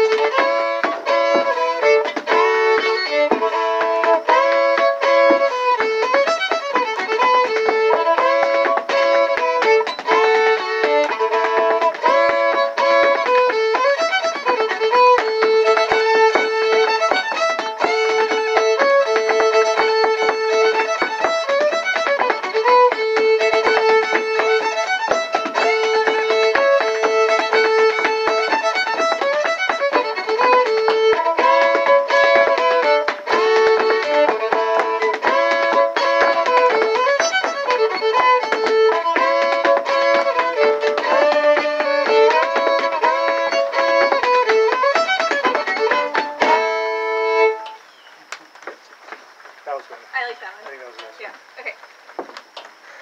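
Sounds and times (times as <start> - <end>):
fiddle playing dance tune: 0.0 - 47.9
hard shoes tapping on wooden board: 0.0 - 52.8.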